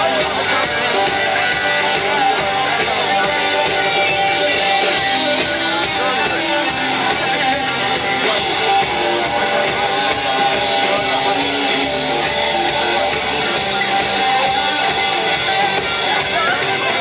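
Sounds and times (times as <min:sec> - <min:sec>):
drums with steady beat: 0:00.0 - 0:17.0
electric guitar: 0:00.0 - 0:17.0
rock band playing: 0:00.0 - 0:17.0.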